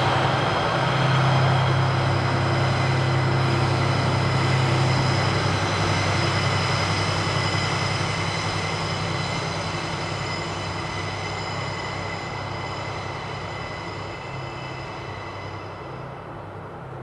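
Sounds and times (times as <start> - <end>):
high-pitched whine: 0.0 - 16.3
diesel train engine hum: 0.0 - 17.0.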